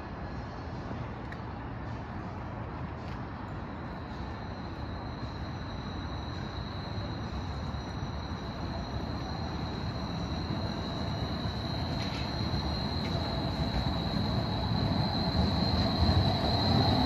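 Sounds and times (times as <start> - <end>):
streetcar rumbling on rails: 0.0 - 17.0.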